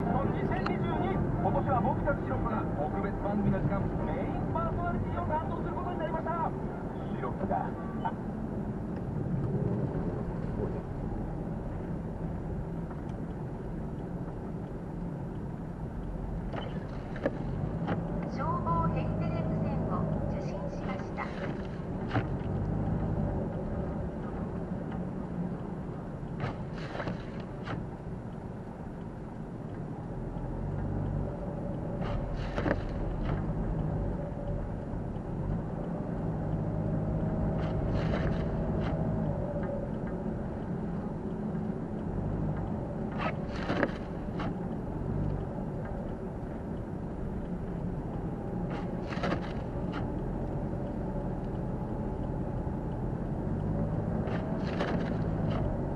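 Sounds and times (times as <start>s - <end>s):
tyres rumbling on snow: 0.0s - 28.6s, 29.8s - 55.9s
wind: 0.0s - 55.9s.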